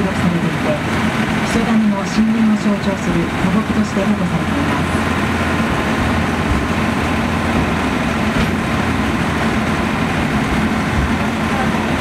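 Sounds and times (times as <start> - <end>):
train engine hum: 0.0 - 12.0
wheels rumbling on rails: 0.0 - 12.0.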